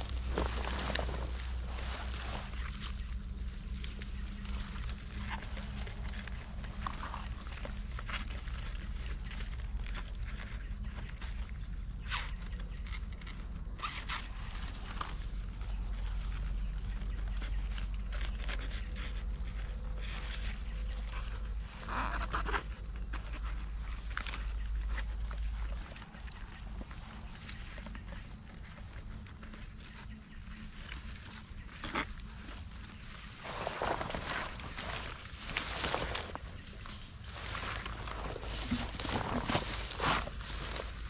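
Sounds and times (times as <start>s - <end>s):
dry grass and leaves rustling: 0.0s - 41.0s
high-pitched insect chorus: 0.0s - 41.0s.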